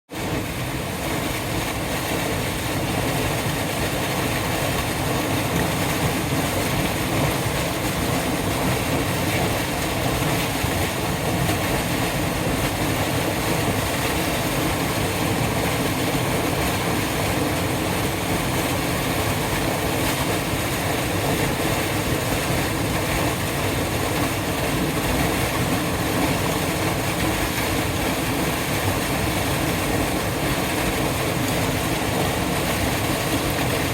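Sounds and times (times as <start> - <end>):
waterfall rushing over rocks: 0.2 - 33.9.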